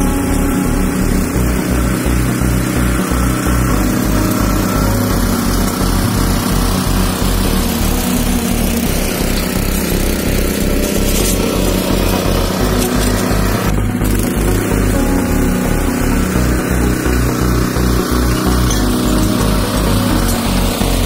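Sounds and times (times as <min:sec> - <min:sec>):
power tiller engine chugging: 0:00.0 - 0:21.0.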